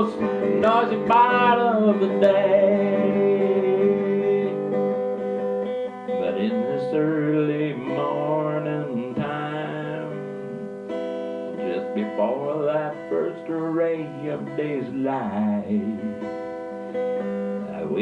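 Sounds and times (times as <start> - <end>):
man singing: 0.0 - 5.1, 6.1 - 10.7, 11.5 - 16.4, 17.6 - 18.0
strummed acoustic guitar: 0.0 - 18.0.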